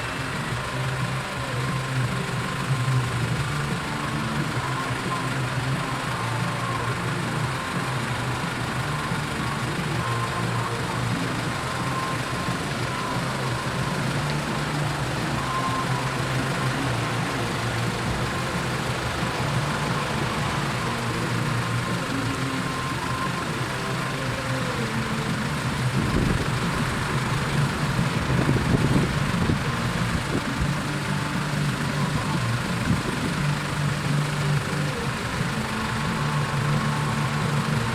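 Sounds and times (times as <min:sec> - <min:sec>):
vehicle engine humming: 0:00.0 - 0:37.9.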